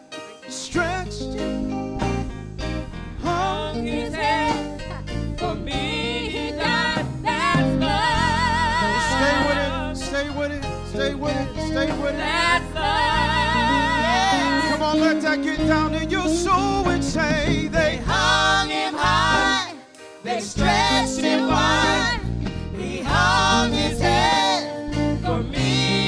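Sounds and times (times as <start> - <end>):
instrumental accompaniment: 0.0 - 26.0
gospel singing with vibrato: 3.2 - 26.0.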